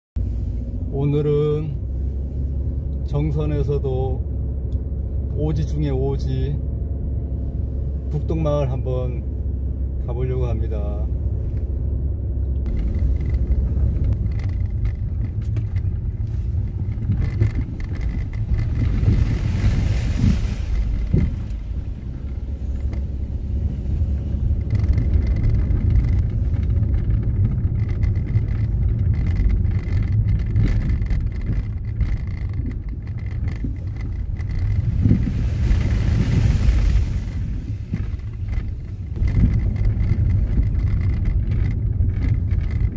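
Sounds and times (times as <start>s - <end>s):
car interior rumble: 0.2s - 42.9s.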